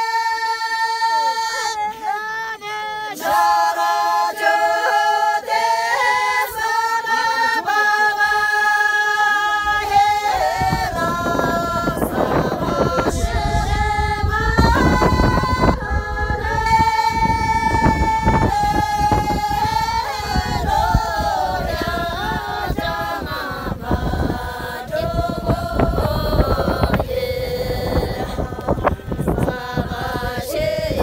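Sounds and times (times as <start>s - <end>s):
women singing without instruments: 0.0s - 31.0s.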